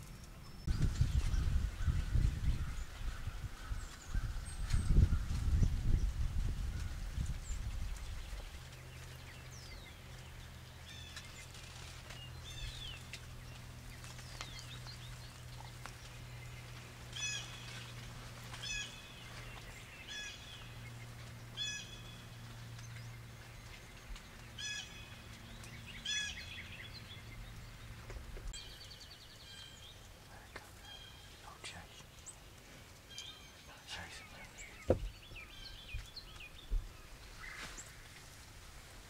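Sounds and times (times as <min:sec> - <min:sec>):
wild birds calling: 0:06.7 - 0:39.0.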